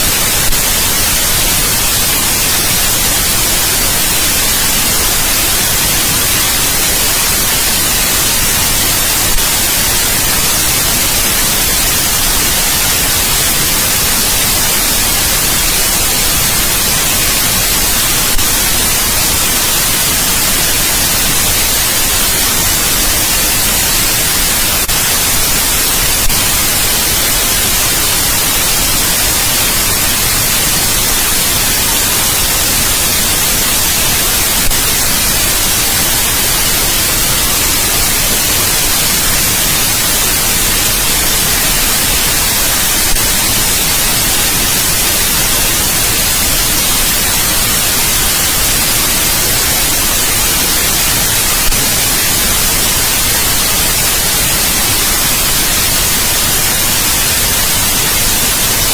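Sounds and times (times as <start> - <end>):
white noise hiss: 0.0 - 58.9.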